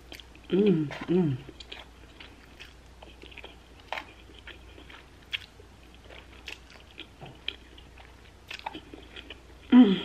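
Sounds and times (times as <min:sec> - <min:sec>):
close chewing: 0:00.0 - 0:09.7.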